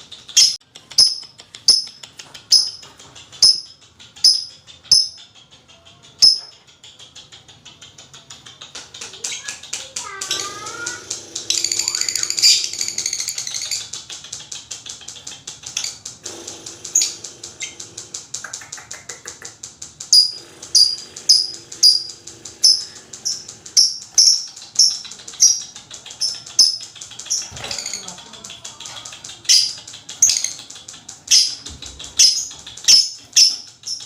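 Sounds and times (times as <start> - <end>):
lovebird chattering trill: 0.2 - 14.4, 15.0 - 34.0.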